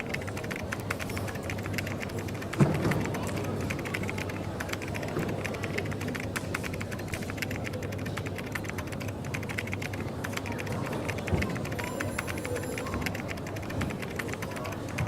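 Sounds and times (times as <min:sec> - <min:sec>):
cafe background hum: 0:00.0 - 0:15.0
typing on a keyboard: 0:00.0 - 0:15.0.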